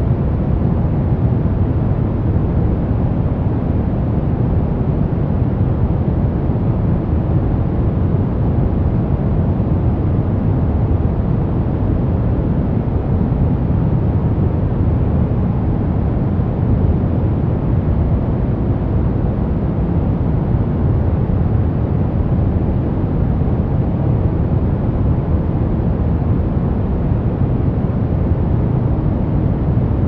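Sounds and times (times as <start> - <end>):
deep muffled white noise: 0.0 - 30.0.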